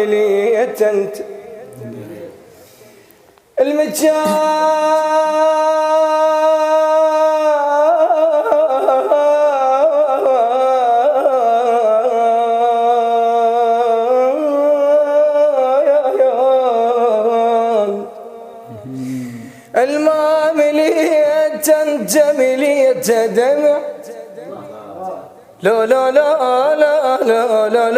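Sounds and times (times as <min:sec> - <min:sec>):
man chanting unaccompanied: 0:00.0 - 0:02.5, 0:03.6 - 0:27.9.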